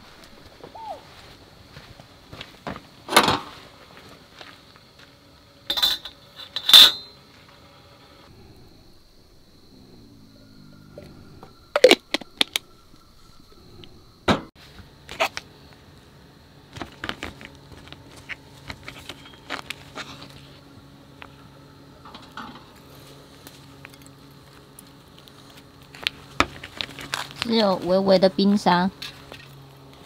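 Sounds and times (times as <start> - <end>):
low hum: 3.8 - 30.0.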